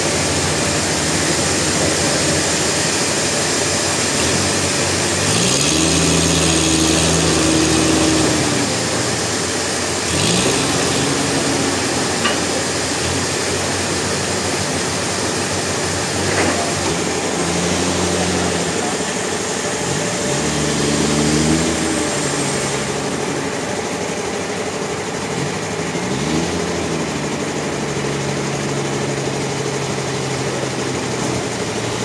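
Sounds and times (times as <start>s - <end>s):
engine running and revving: 0.0s - 32.0s.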